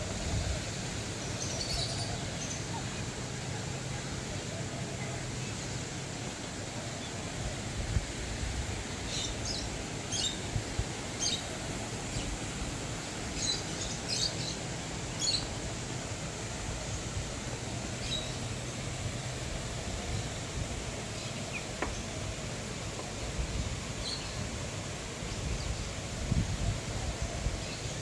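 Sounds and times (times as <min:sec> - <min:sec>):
birds chirping: 0:00.0 - 0:07.6, 0:08.8 - 0:26.1
outdoor ambience hiss: 0:00.0 - 0:28.0.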